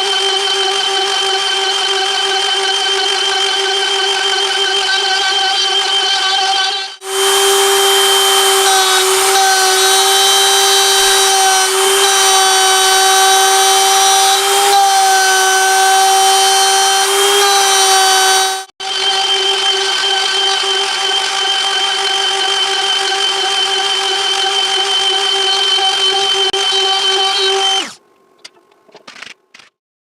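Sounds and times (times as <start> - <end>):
router spindle whining while milling metal: 0.0 - 28.0.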